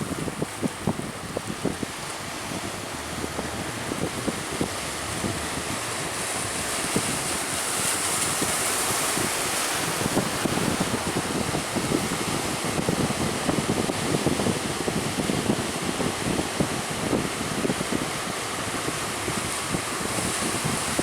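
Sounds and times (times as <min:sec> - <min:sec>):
rough sea waves: 0:00.0 - 0:21.0
wind buffeting microphone: 0:00.0 - 0:21.0.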